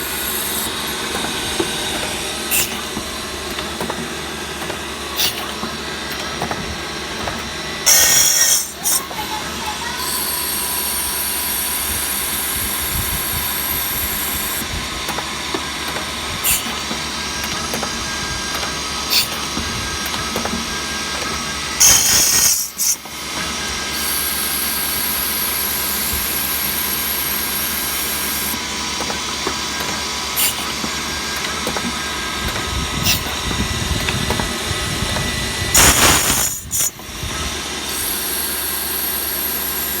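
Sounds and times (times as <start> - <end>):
drilling machine whining: 0.0 - 40.0.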